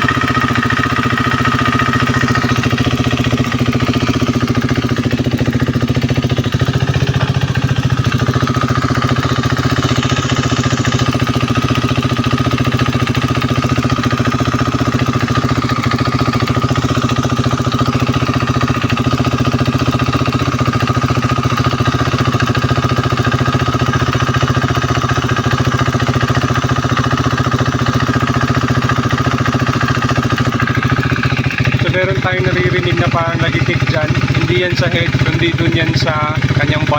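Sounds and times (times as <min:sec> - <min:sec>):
motorcycle engine idling: 0:00.0 - 0:36.9
rapid ticking of valve: 0:00.0 - 0:36.9.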